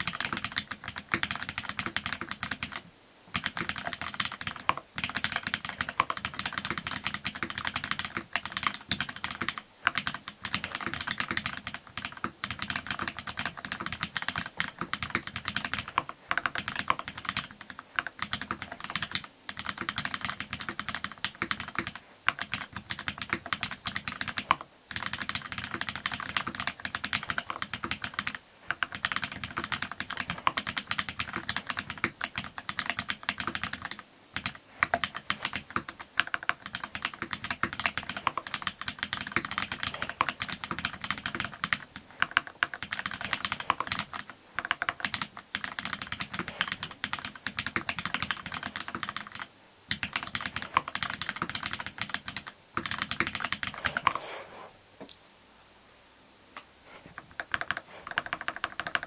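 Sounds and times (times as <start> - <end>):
mechanical keyboard typing: 0.0 - 54.2, 57.3 - 59.0.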